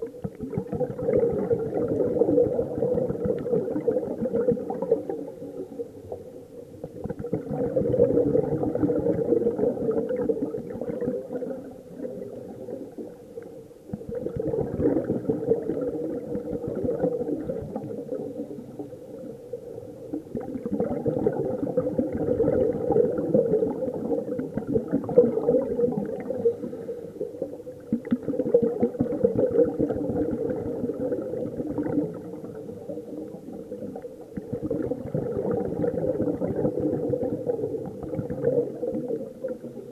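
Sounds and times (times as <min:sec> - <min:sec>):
underwater exhaled air bubbling: 0:00.0 - 0:39.9.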